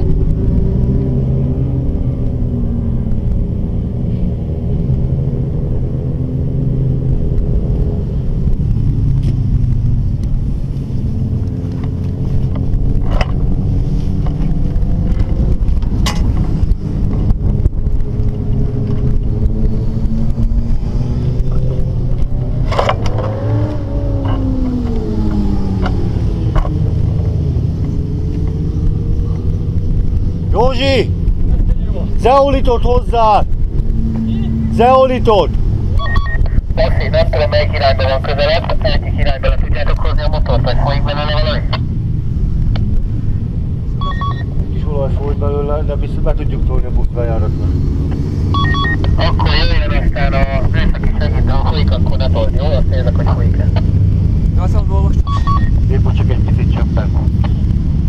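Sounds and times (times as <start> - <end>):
motorcycle engines passing: 0.0 - 58.0
steady low rumble: 0.0 - 58.0.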